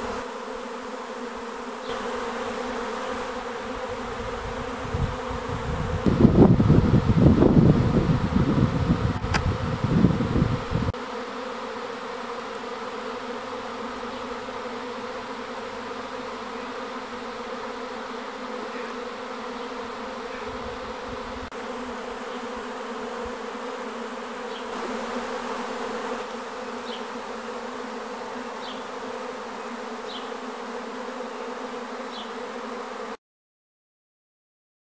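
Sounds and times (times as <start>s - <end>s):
swarm of bees buzzing: 0.0s - 33.2s.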